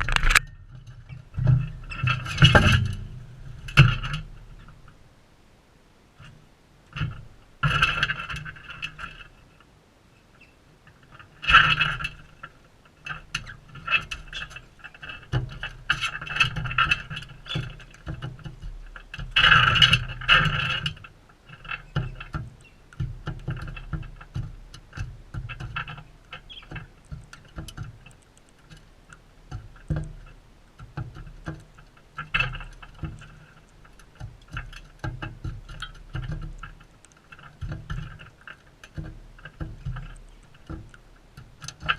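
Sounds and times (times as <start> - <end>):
birds clicking and rasping: 0.0 - 5.0, 6.2 - 9.7, 10.3 - 41.9.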